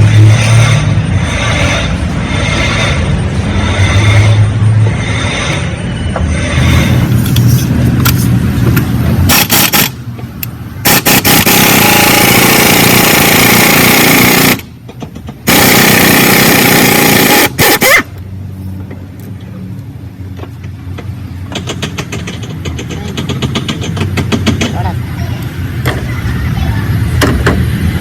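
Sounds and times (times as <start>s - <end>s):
loud vehicle engine: 0.0s - 28.0s.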